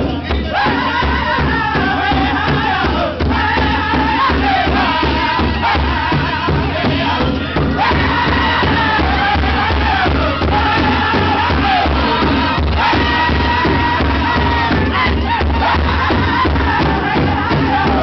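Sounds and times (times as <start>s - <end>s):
group singing in high voices: 0.0s - 18.0s
large bass drum beat: 0.0s - 18.0s.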